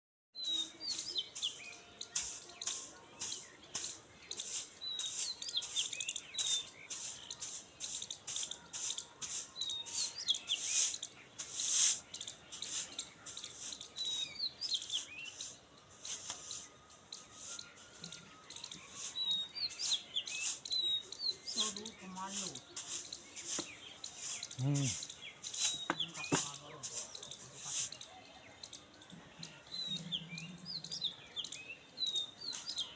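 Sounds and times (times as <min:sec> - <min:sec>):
small birds chirping: 0:00.4 - 0:32.9.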